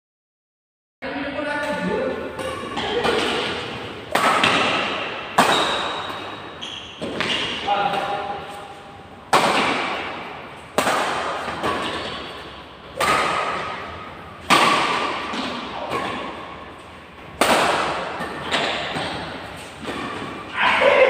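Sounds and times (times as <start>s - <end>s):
rackets smacking shuttlecock: 1.6s - 20.5s.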